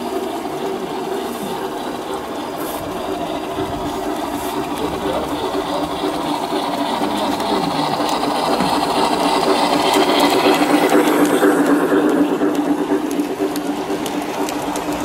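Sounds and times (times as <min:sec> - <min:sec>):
model train whirring on rails: 0:00.0 - 0:15.0.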